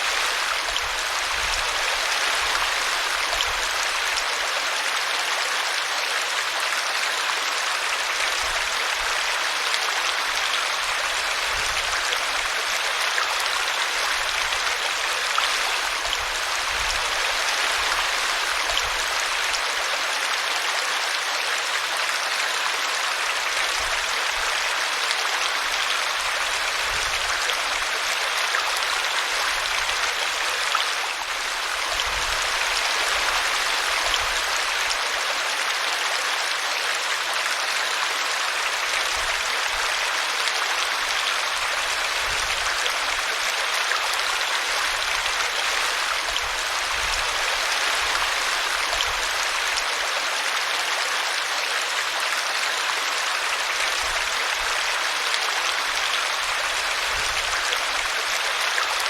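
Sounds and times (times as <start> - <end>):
brook flowing water: 0.0 - 59.0.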